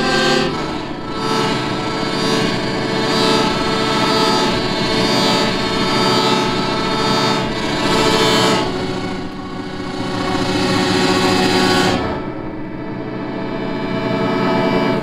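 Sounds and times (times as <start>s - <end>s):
accordion droning chord: 0.0s - 15.0s.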